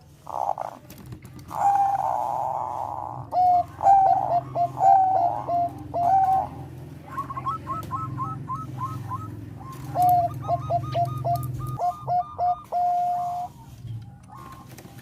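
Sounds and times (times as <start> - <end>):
dove cooing: 0.0 - 15.0
low steady hum: 0.0 - 15.0.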